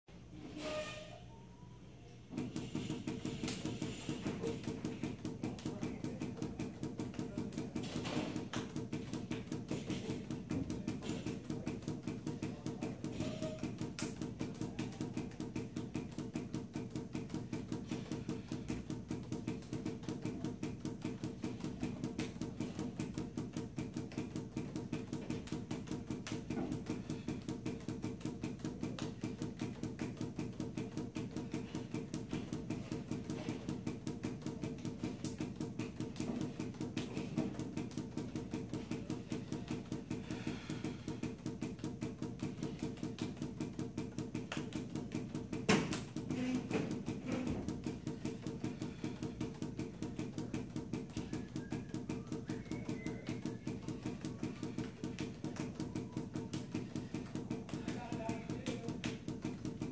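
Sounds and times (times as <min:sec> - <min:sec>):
juggling balls bouncing on tiled floor: 0:02.2 - 0:59.9.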